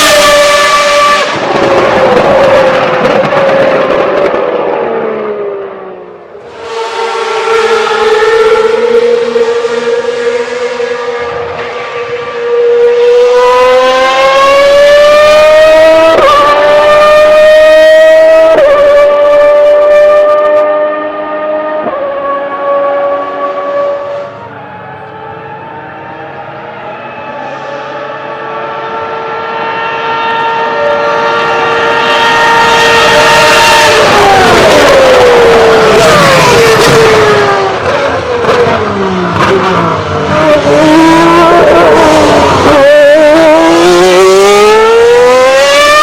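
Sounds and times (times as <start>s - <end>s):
racing car engine wailing: 0.0s - 46.0s.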